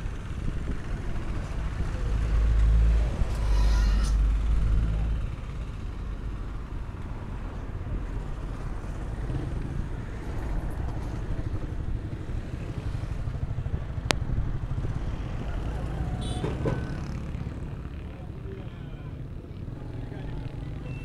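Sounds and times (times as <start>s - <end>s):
vehicle engines passing: 0.0s - 21.0s.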